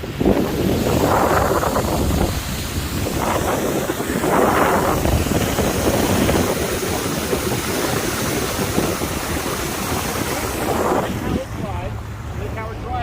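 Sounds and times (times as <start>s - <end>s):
wind noise on microphone: 0.0s - 12.4s
boat motor running: 0.0s - 13.0s
rushing water: 0.0s - 13.0s.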